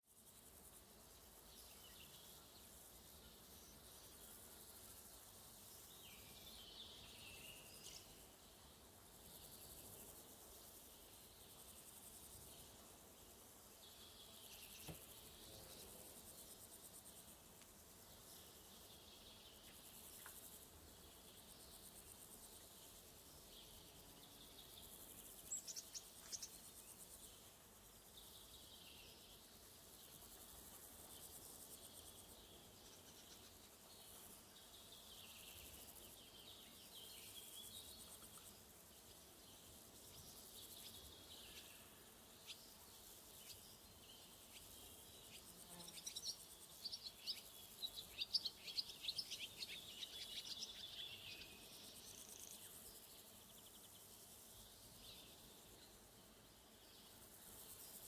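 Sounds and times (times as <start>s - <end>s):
crickets chirping: 0.2s - 58.0s.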